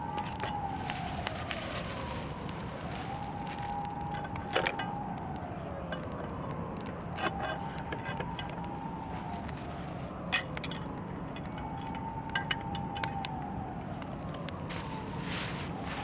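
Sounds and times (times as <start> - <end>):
campfire crackling and popping: 0.0 - 16.0
siren wailing: 0.0 - 16.0.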